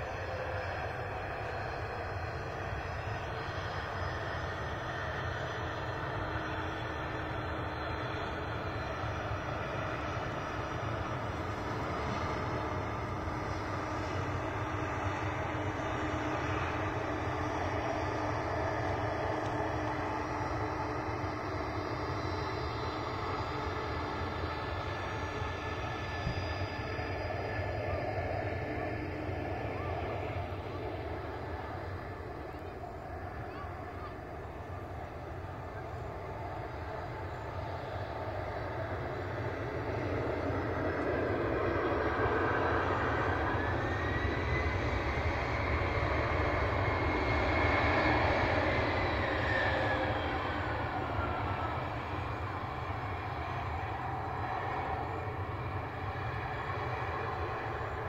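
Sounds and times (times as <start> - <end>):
jet engines rushing: 0.0 - 58.0.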